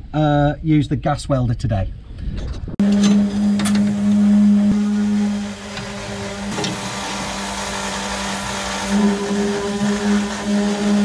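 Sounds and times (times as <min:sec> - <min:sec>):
steady mechanical hum: 0:01.9 - 0:11.0.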